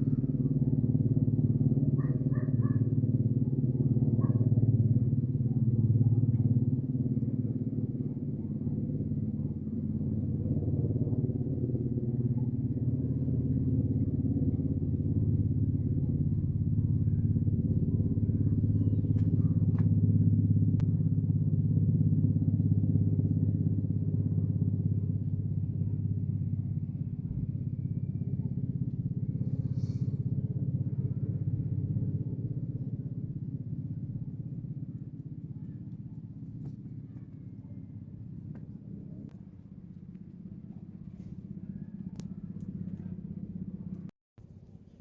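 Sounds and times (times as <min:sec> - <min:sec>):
helicopter rotor and engine drone: 0:00.0 - 0:44.1.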